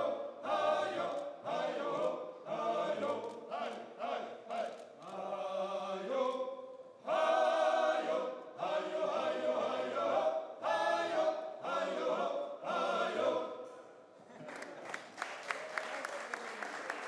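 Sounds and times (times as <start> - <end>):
men singing a cappella: 0.0 - 13.7.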